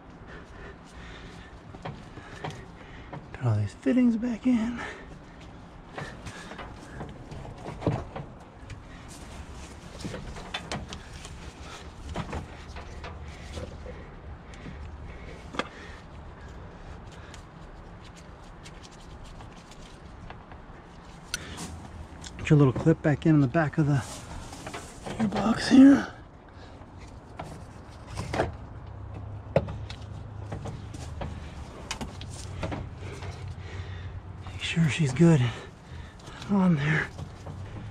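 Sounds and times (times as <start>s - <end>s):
light clicks and knocks of parts: 0.0s - 37.9s.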